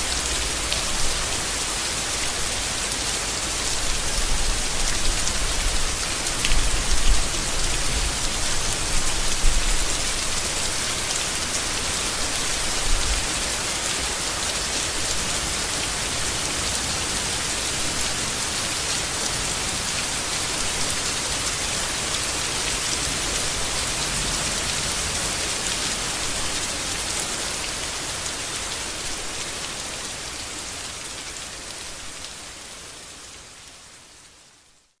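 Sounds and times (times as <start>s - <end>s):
heavy rain on leaves: 0.0s - 35.0s.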